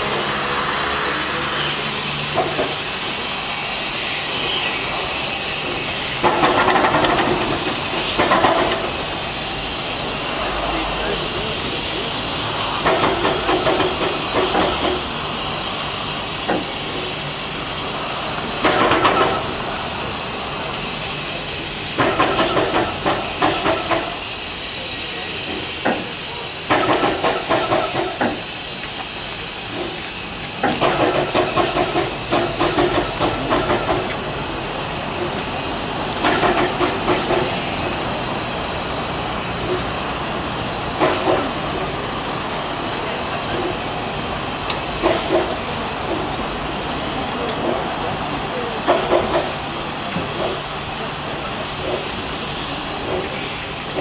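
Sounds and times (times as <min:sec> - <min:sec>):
hiss of escaping steam: 0:00.0 - 0:54.0
rapid steam exhaust beats: 0:00.0 - 0:54.0.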